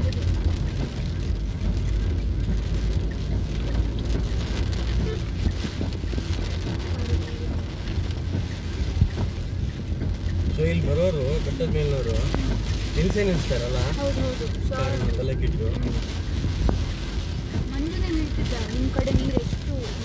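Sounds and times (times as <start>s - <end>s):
car engine and wet road rumble: 0.0s - 20.0s
rain pattering on car: 0.0s - 20.0s.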